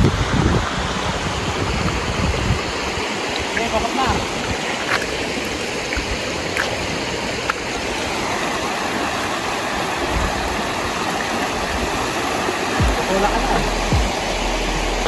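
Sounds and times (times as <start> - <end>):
river water rushing through rapids: 0.0 - 15.0.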